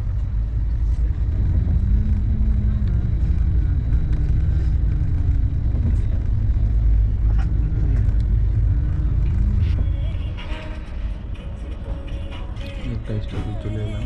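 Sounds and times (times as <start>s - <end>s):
train rumble inside coach: 0.0s - 14.0s.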